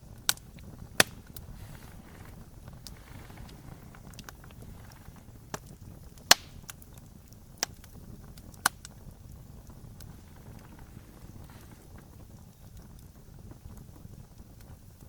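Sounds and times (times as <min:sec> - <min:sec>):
sharp fire pops: 0:00.0 - 0:15.0
wood fire crackling: 0:00.0 - 0:15.0.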